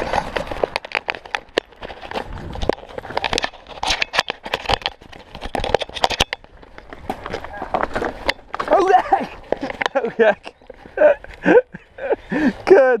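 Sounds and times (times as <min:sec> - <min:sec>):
tyres crunching on stones: 0:00.0 - 0:11.9
bike rattling: 0:00.0 - 0:12.7.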